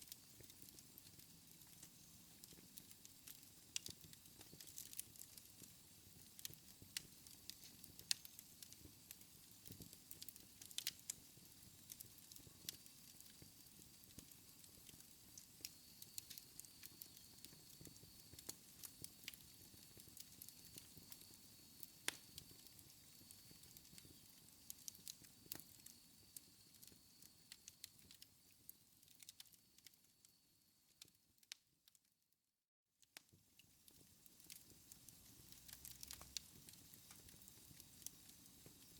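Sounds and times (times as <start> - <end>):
wood fire crackling: 0.0 - 31.6, 33.1 - 38.9.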